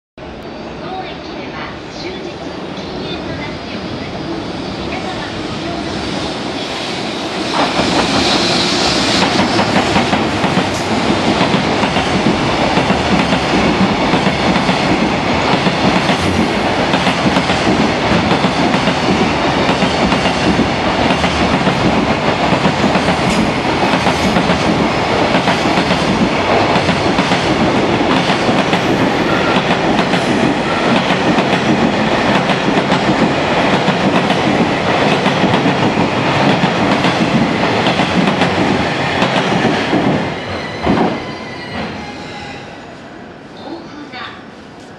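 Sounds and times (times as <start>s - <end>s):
freight train passing: 0.2s - 44.9s
train wheels on rails: 2.4s - 43.0s.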